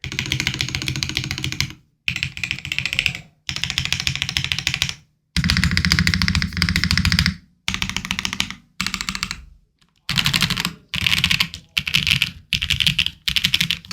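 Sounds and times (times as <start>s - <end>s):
mechanical keyboard typing: 0.0s - 13.9s.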